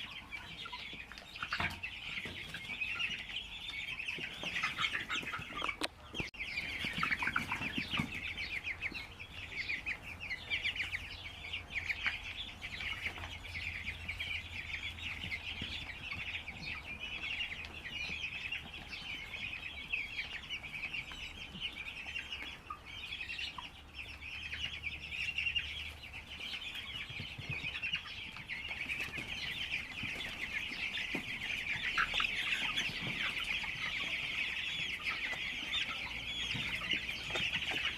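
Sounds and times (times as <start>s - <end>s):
flock of chickens clucking: 0.0s - 37.9s.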